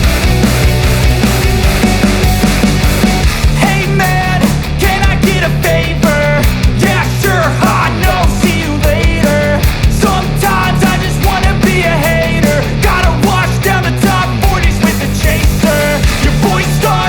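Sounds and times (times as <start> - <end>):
rock song with drums and bass: 0.0 - 17.0.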